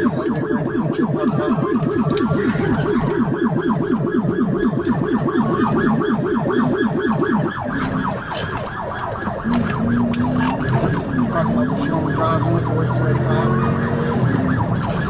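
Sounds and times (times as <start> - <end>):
police siren yelp: 0.0 - 15.0.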